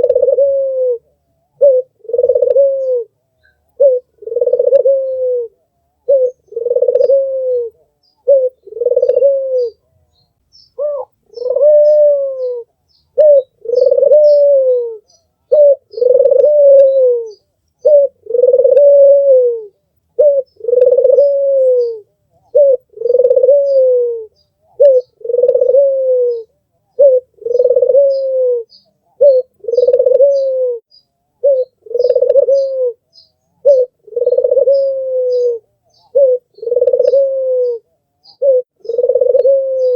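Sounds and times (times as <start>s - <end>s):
dove cooing: 0.0s - 10.0s, 10.8s - 39.9s.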